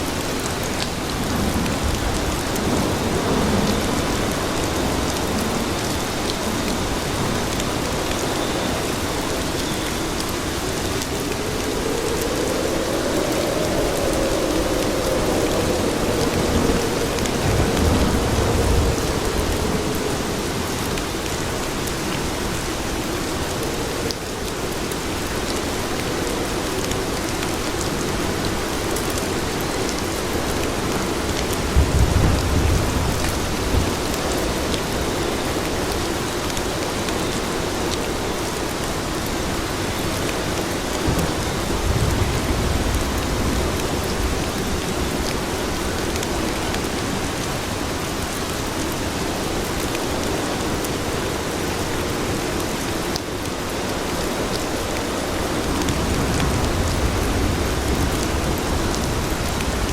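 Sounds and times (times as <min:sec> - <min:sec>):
rain on pavement: 0:00.0 - 0:59.9
thunder rumbling: 0:00.1 - 0:36.0, 0:40.7 - 0:48.4, 0:53.9 - 0:59.9.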